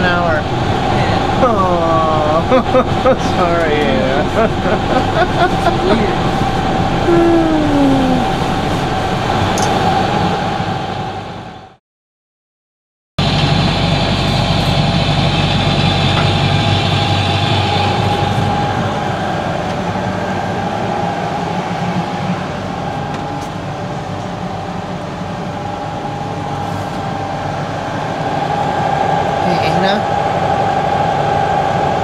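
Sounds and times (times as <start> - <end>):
boat diesel engine droning: 0.0 - 11.8, 13.2 - 32.0.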